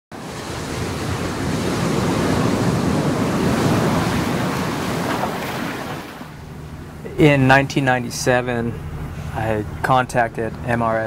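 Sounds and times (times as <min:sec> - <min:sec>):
surf and splashing water: 0:00.1 - 0:09.4.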